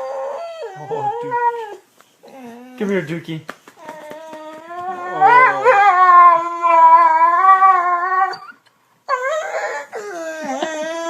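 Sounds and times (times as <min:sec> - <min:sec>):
dog howling: 0:00.0 - 0:02.8, 0:03.8 - 0:11.0.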